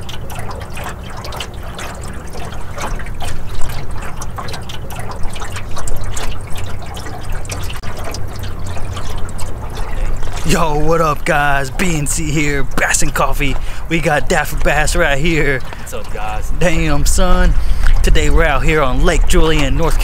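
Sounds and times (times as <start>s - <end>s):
waves lapping against boat hull: 0.0s - 20.0s.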